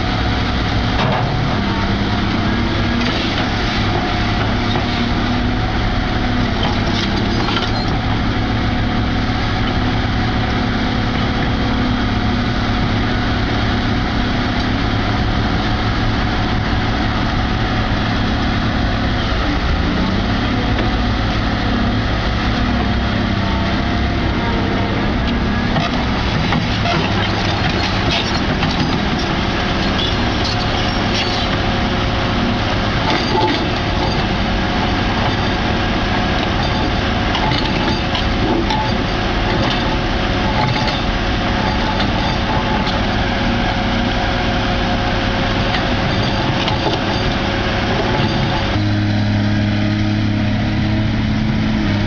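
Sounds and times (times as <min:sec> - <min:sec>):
diesel engine drone: 0:00.0 - 0:52.0.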